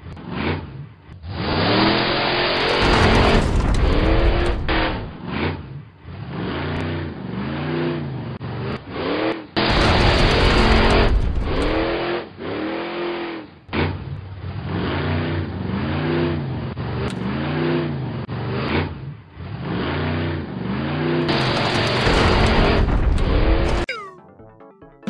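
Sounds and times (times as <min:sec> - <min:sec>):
cartoon truck engine revving: 0:00.0 - 0:24.4.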